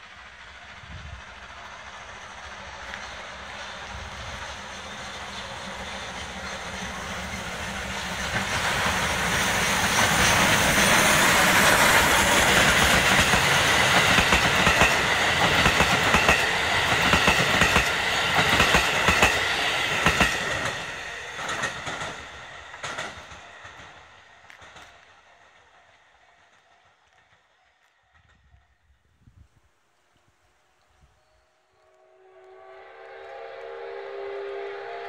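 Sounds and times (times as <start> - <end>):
train wheels clacking over rail joints: 0.0 - 28.5
steam locomotive passing: 0.0 - 35.0.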